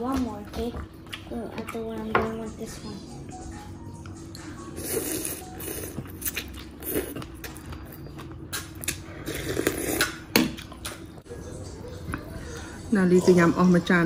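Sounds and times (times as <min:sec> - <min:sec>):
chewing and mouth noises: 0:00.0 - 0:12.9.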